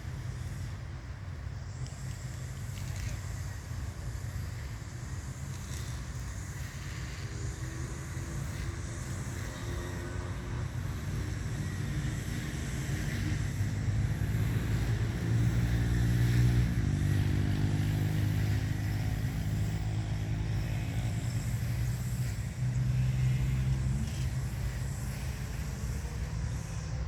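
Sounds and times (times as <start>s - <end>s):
vehicle engine rumbling: 0.2s - 27.0s.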